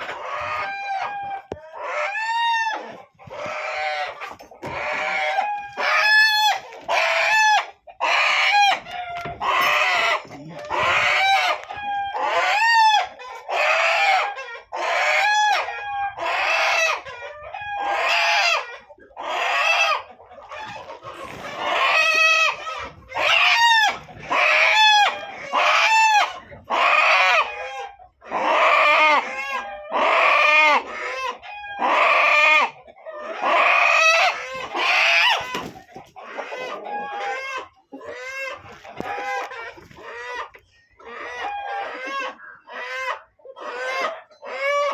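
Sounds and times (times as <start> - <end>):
chickens calling loudly: 0.0 - 44.9.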